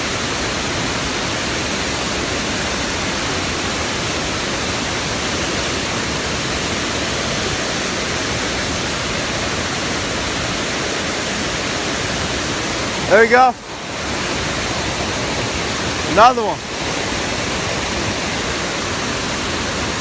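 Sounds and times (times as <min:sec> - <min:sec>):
waterfall pouring: 0:00.0 - 0:20.0.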